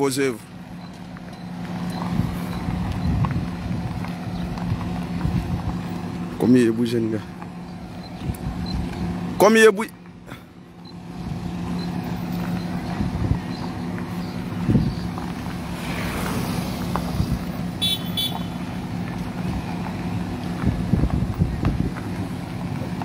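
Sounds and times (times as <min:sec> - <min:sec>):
road and wind noise: 0:00.0 - 0:23.0
vehicle engines humming: 0:00.0 - 0:23.0.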